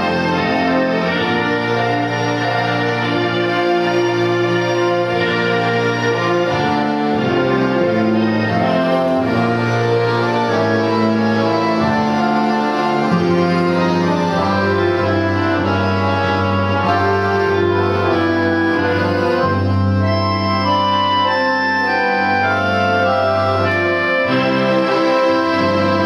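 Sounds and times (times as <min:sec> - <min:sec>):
accordion orchestra playing: 0:00.0 - 0:26.0.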